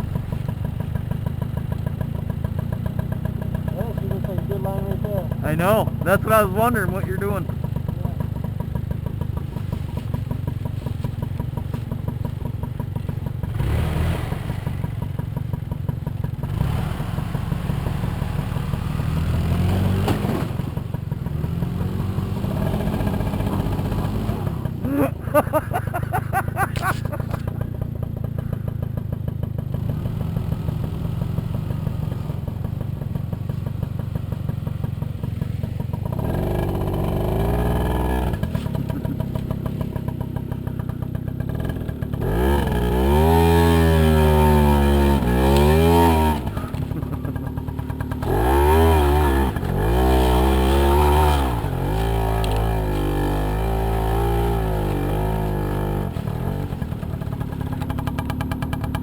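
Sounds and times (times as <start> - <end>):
moped engine revving: 0.0 - 59.0.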